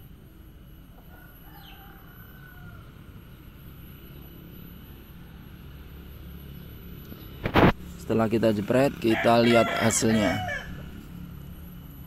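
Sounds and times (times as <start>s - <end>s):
distant bird chirping: 0.7s - 11.4s.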